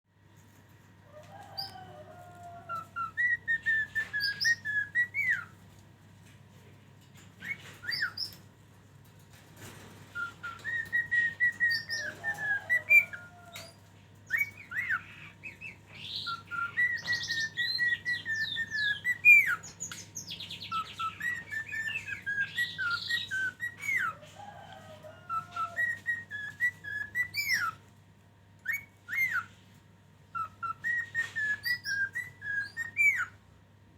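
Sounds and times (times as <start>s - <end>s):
songbird whistling and chirping: 1.4s - 5.6s, 7.4s - 8.4s, 10.1s - 27.8s, 28.6s - 29.7s, 30.3s - 33.4s.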